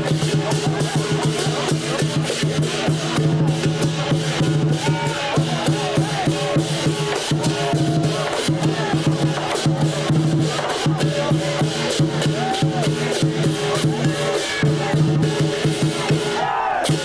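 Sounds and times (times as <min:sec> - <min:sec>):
drums beaten rapidly: 0:00.0 - 0:17.0.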